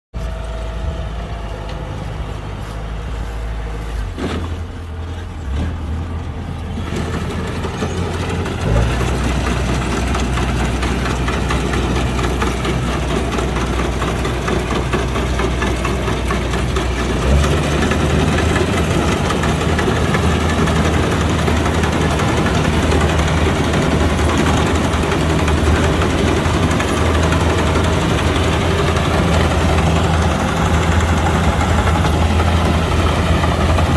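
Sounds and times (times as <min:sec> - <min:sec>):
combine harvester engine running: 0:00.1 - 0:33.9.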